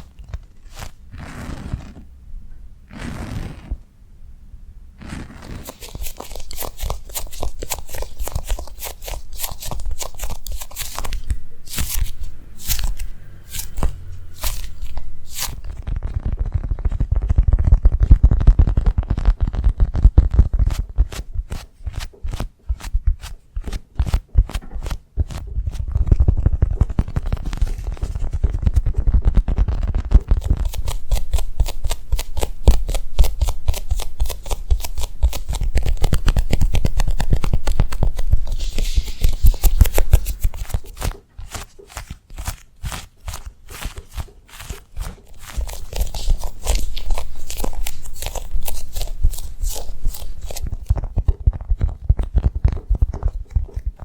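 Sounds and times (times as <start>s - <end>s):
tapping and scratching: 5.3s - 54.0s.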